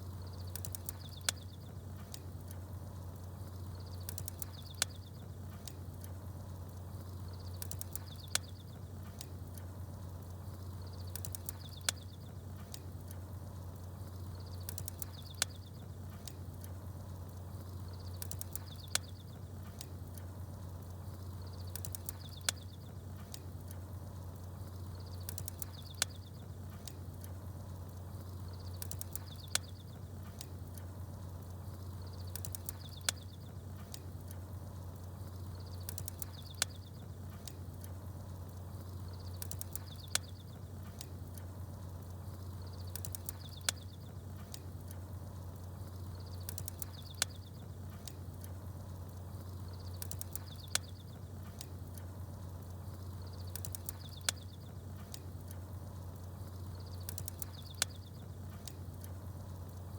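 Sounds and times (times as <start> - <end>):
campfire crackling: 0.0 - 59.9
small birds chirping: 0.0 - 59.9
steady low hum: 0.0 - 59.9.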